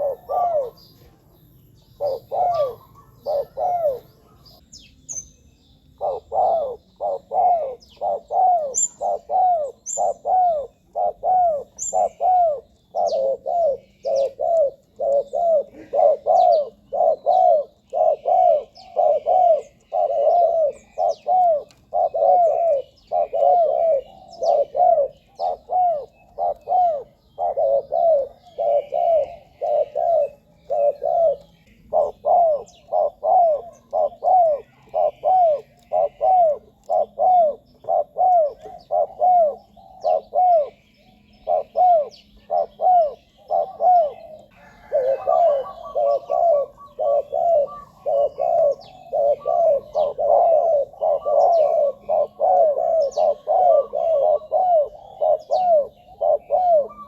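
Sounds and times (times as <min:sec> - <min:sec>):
dove cooing: 0:00.0 - 0:04.6, 0:06.0 - 0:57.0.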